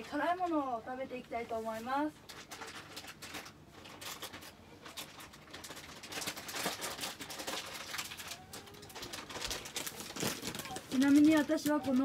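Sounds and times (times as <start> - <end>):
plastic snack bag crinkling: 2.0 - 12.0.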